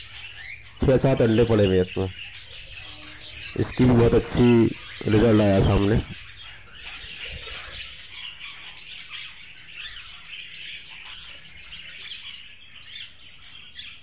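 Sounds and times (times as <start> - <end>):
budgerigars chattering: 0.0 - 14.0.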